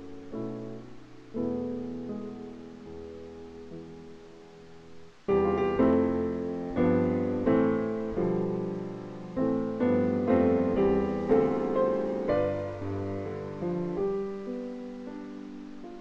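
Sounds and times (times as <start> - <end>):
gentle solo piano music: 0.0 - 16.0.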